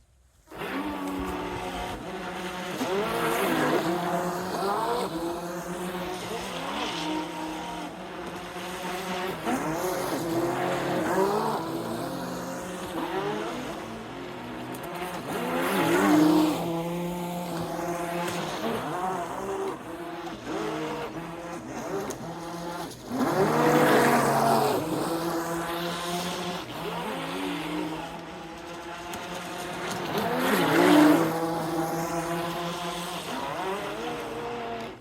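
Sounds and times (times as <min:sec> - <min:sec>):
electric boat motor whine: 0:00.5 - 0:35.0.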